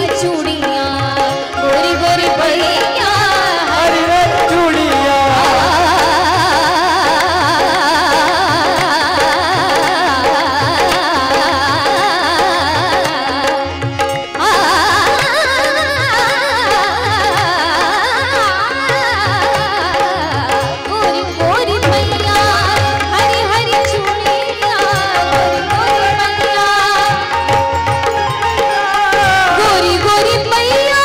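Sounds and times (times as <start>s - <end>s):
harmonium and keyboard: 0.0s - 31.0s
tabla beat: 0.0s - 31.0s
woman singing devotional song: 0.0s - 31.0s.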